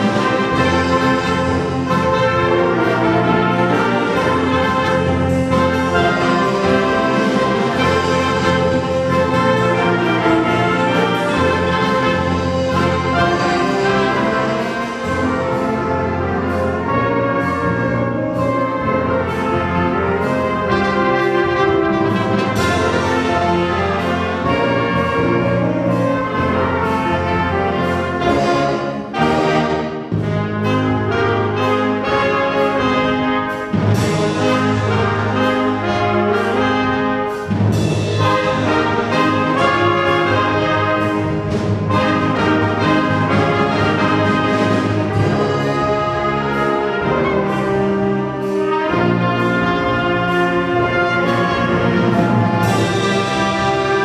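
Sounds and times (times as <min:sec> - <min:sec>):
low brass: 0:00.0 - 0:54.0
wind band playing rock piece: 0:00.0 - 0:54.0.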